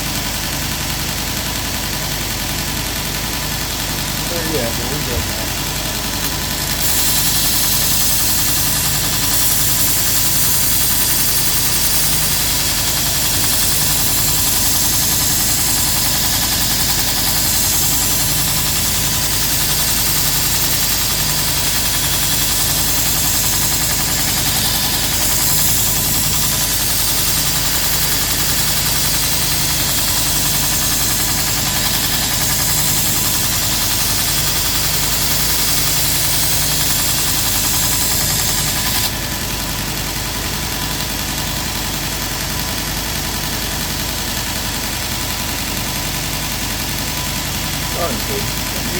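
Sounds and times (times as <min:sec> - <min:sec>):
motor hum: 0:00.0 - 0:48.9
sanding belt hissing: 0:03.6 - 0:48.9.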